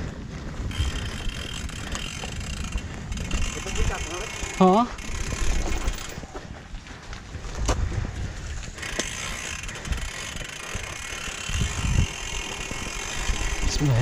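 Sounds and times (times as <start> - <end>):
tyre rolling on dirt: 0.0 - 14.0
bike freehub clicking: 0.4 - 6.2, 8.5 - 14.0.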